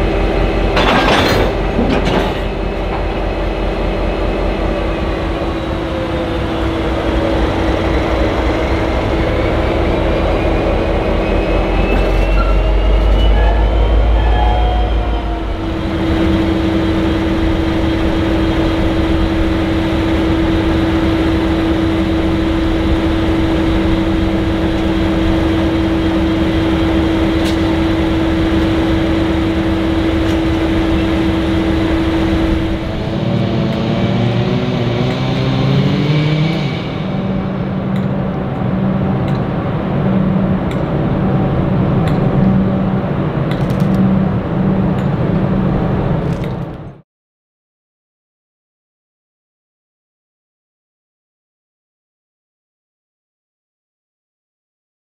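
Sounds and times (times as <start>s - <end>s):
diesel locomotive engine running: 0.0s - 47.0s.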